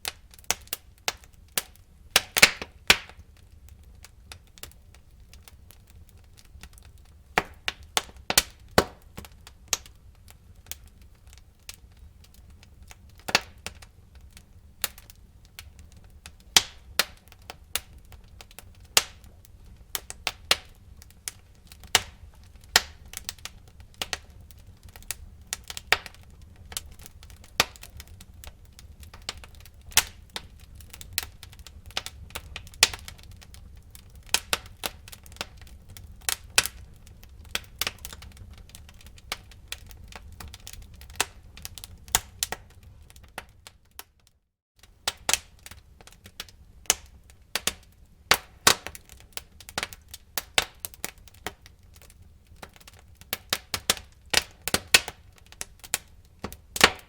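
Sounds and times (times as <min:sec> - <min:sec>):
low rumble of fire: 0:00.0 - 0:57.0
wood fire crackling and popping: 0:00.0 - 0:57.0.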